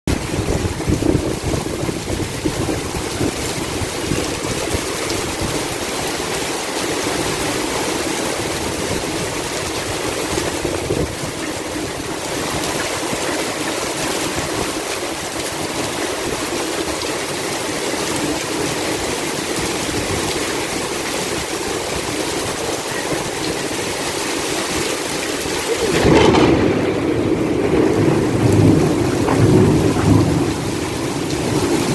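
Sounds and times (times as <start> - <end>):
heavy rain pouring: 0.1 - 31.9.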